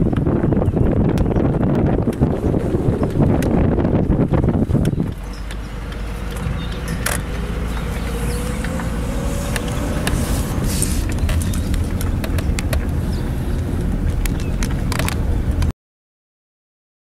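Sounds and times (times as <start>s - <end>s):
car engine and tyre rumble: 0.0s - 15.7s.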